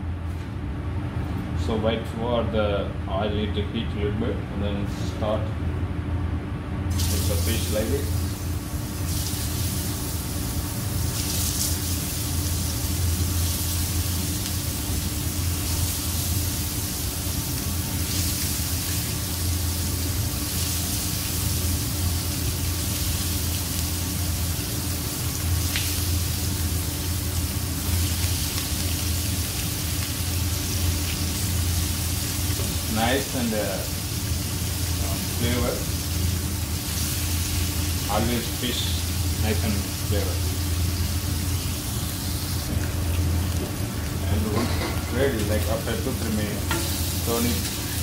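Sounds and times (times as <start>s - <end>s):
steady low hum: 0.0s - 48.0s
fish sizzling in hot oil: 6.9s - 48.0s.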